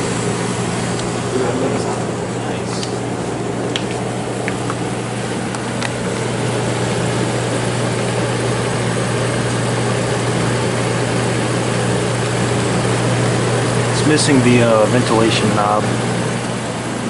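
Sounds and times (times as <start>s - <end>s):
air conditioner compressor humming: 0.0s - 17.0s
fan air rushing: 0.0s - 17.0s.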